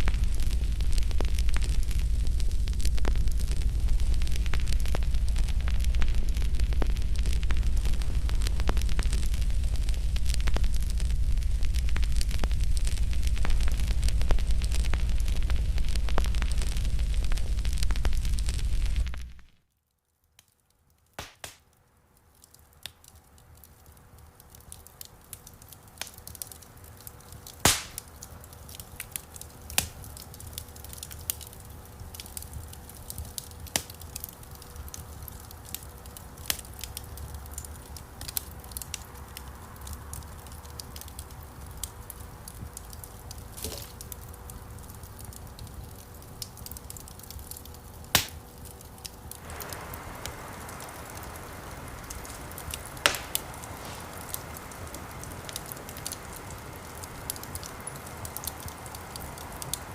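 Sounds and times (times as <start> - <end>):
low rumble of flames: 0.0 - 19.7, 22.1 - 59.9
burning wood crackling and popping: 0.0 - 59.9.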